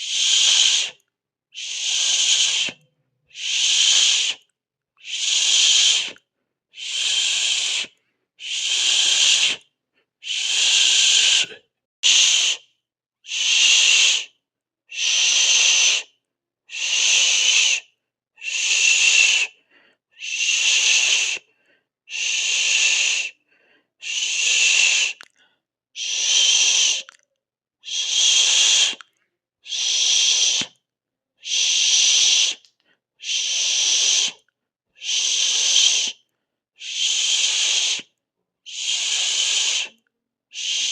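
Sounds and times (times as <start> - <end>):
person hissing through teeth: 0.0 - 1.0, 1.6 - 12.7, 13.3 - 14.3, 14.9 - 16.1, 16.7 - 19.6, 20.2 - 21.5, 22.1 - 23.4, 24.0 - 25.4, 26.0 - 27.2, 27.8 - 30.8, 31.4 - 34.4, 35.0 - 36.2, 36.8 - 38.1, 38.7 - 40.9.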